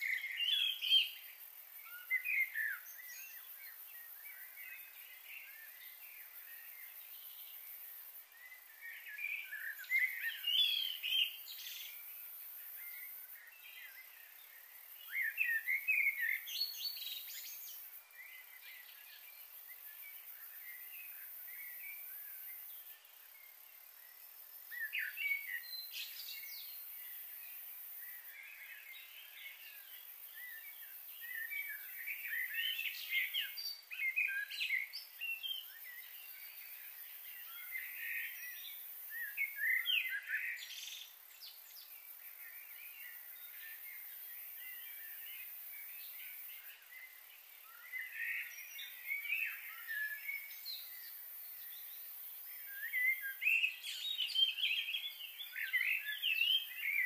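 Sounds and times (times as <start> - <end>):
faint high hiss: 0.0 - 57.0
small birds chirping: 0.0 - 57.0.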